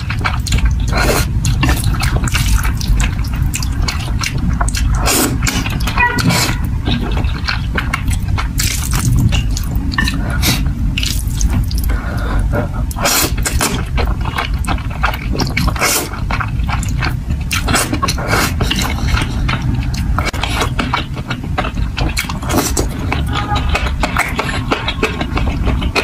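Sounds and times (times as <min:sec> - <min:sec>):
low rumble: 0:00.0 - 0:26.0
slurping and chewing noodles: 0:00.0 - 0:26.0.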